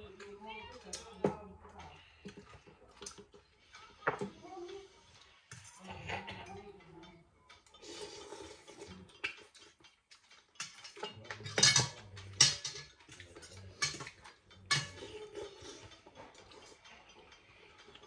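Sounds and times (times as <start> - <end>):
utensils clinking against bowls: 0.0 - 18.0.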